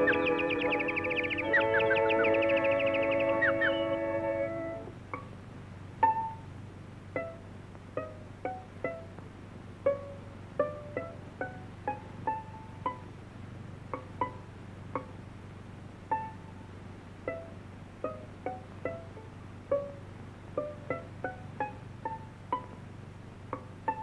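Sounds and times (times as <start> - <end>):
faint low hum: 0.0 - 24.0
plucked pizzicato string notes: 0.0 - 24.0.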